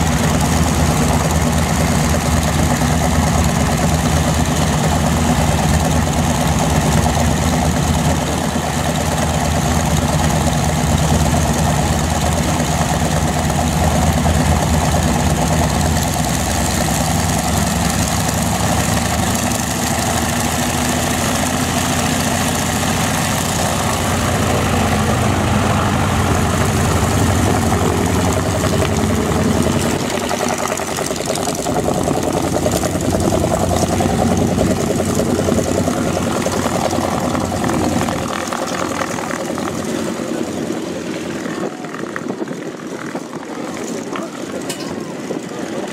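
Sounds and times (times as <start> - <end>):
aircraft radial engines droning: 0.0 - 45.9.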